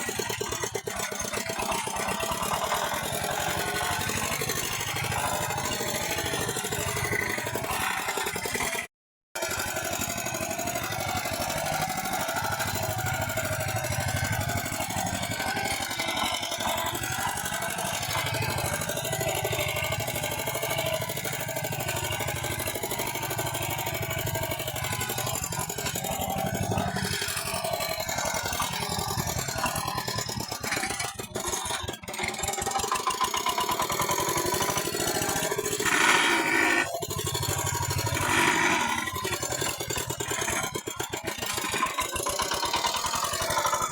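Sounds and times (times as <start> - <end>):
walking tractor engine running: 0.0 - 8.8, 9.4 - 43.9.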